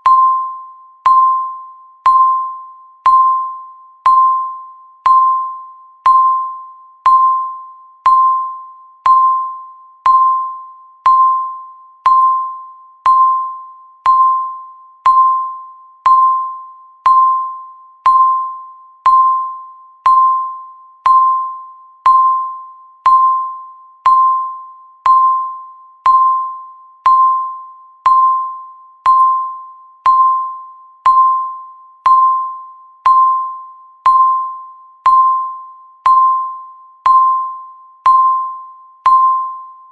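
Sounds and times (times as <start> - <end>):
countdown timer beeping: 0.0 - 39.8.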